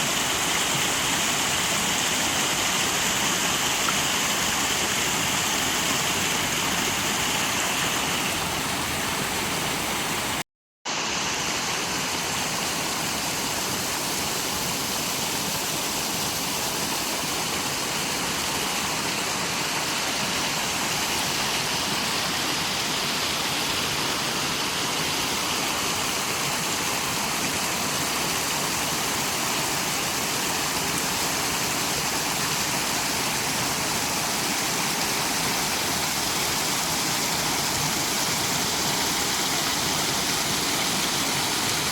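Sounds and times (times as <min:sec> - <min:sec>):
rushing water: 0:00.0 - 0:41.9.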